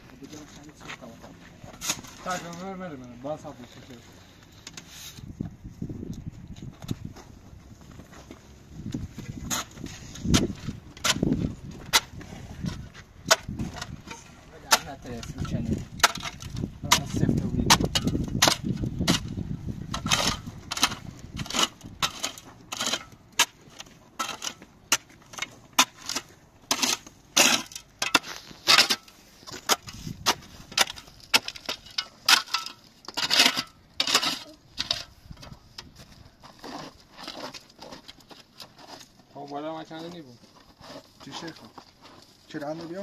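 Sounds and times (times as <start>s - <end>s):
shovel scraping gravelly soil: 0.1s - 5.4s, 7.7s - 43.0s.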